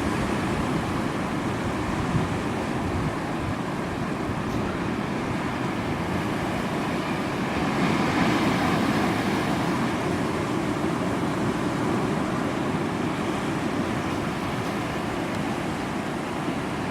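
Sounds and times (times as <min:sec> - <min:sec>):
ocean surf breaking on beach: 0:00.0 - 0:16.9.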